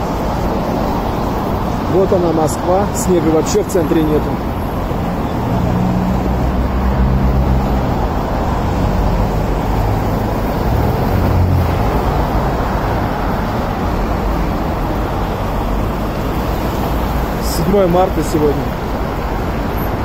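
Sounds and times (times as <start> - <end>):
cars driving past: 0.0 - 20.0
passing vehicle engine hum: 0.0 - 20.0.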